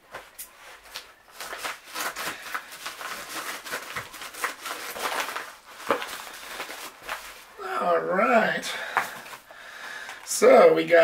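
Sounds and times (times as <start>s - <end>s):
packaging rustling and crinkling: 0.0s - 7.6s, 8.8s - 10.3s.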